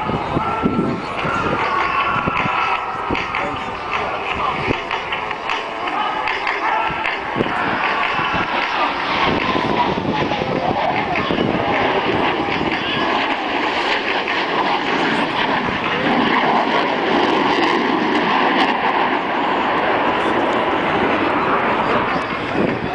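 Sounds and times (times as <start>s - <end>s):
jets roaring past: 0.0s - 22.9s.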